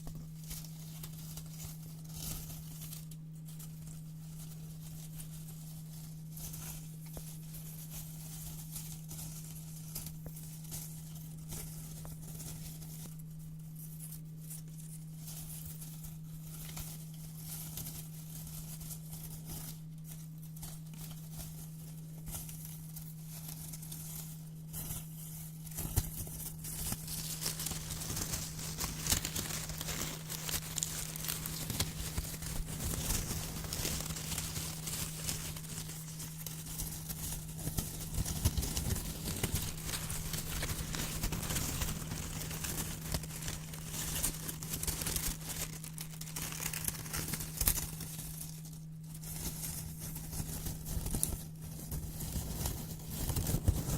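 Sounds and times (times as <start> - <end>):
paper crinkling: 0.0 - 53.9.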